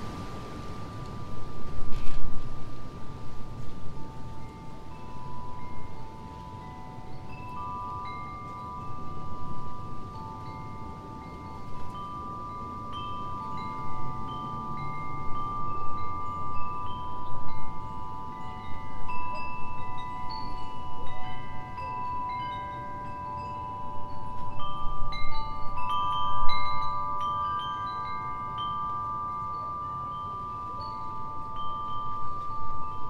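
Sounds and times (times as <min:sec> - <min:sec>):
low wind rumble: 0:00.0 - 0:33.0
wind chimes ringing: 0:00.6 - 0:33.0.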